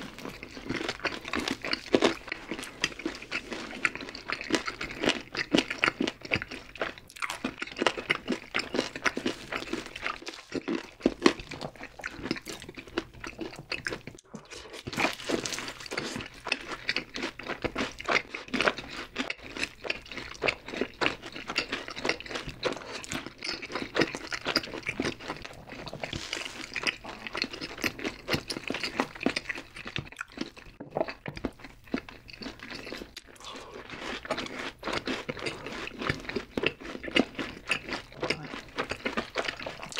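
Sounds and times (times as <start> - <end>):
crisp crunching of fried food: 0.0 - 39.9.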